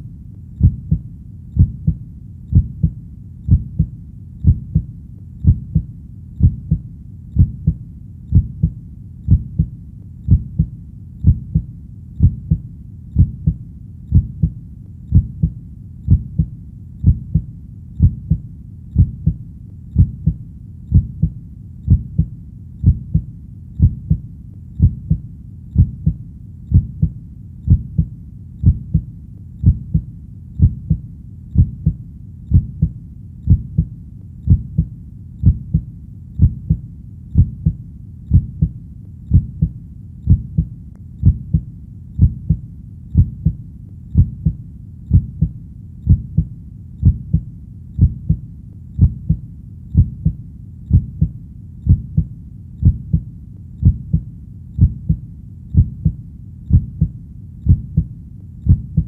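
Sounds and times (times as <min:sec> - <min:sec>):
heartbeat thumps: 0:00.6 - 0:59.0.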